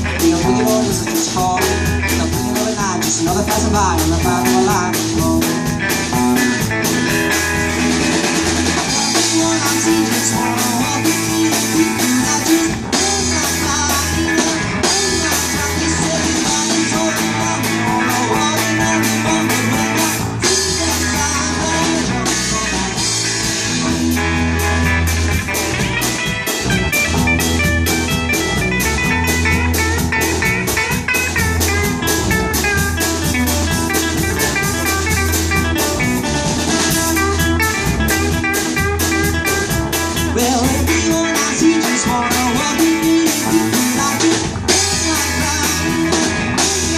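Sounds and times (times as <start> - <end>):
bass guitar: 0.0 - 46.9
drum kit: 0.0 - 46.9
electric guitar lead: 0.0 - 46.9.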